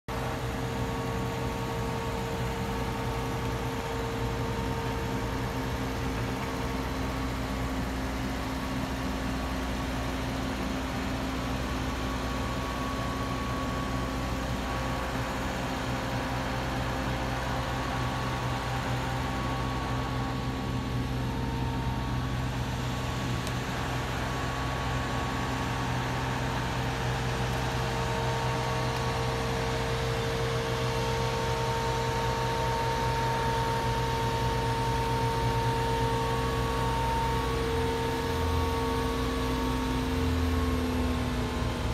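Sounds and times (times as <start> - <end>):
crane engine running steadily: 0.1 - 41.9.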